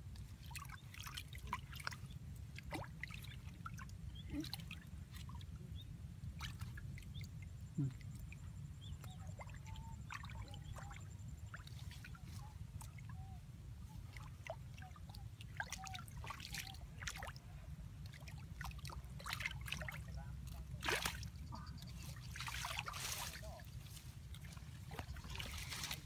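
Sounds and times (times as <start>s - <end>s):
shallow water trickling and sloshing: 0.0s - 26.0s
small splashes: 0.2s - 5.6s, 6.3s - 13.2s, 13.9s - 26.0s.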